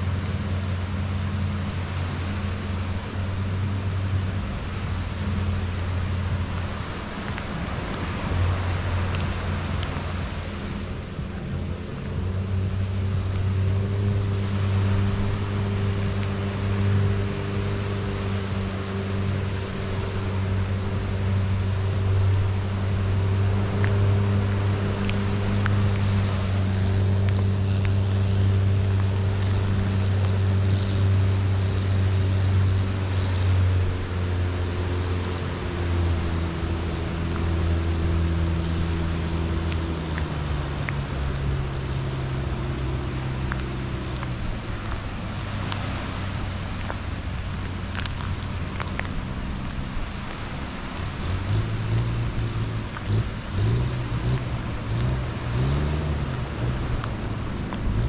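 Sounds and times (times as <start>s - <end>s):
boat engine droning: 0.0s - 58.0s
small waves washing on sand: 0.0s - 58.0s.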